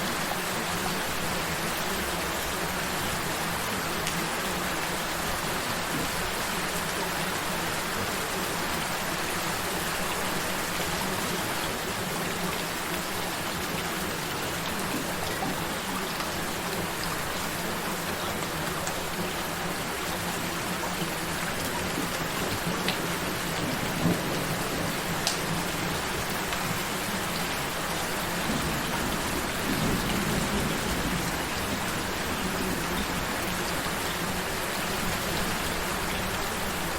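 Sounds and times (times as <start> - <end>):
gentle rain falling: 0.0 - 36.9.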